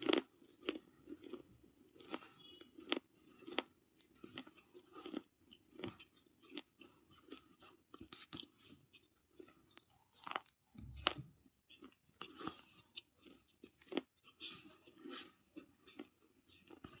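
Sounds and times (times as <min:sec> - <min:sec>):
person chewing gritty crunches: 0:00.0 - 0:17.0.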